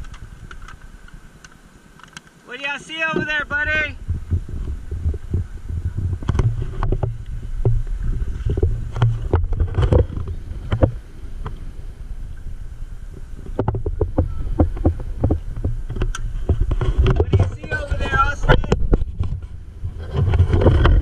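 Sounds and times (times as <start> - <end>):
wading through shallow water: 0.0 - 21.0
steady low rumble: 3.3 - 21.0.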